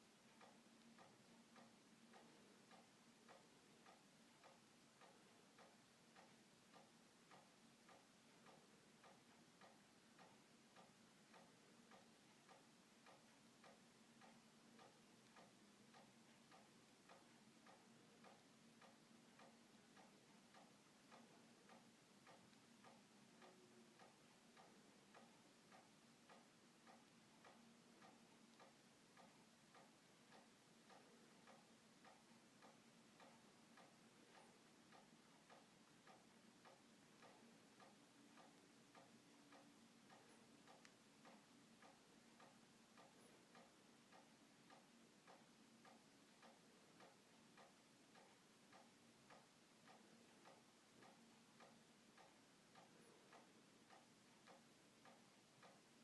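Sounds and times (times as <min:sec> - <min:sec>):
faint regular ticking: 0:00.0 - 0:56.0
faint steady hum: 0:00.0 - 0:56.0.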